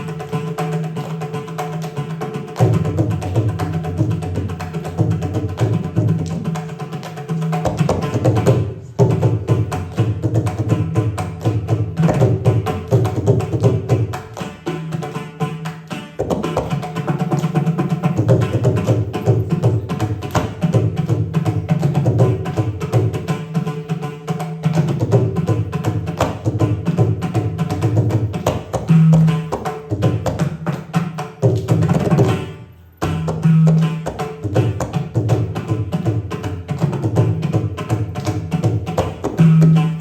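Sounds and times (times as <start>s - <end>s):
hand drums playing fast: 0.0s - 40.0s.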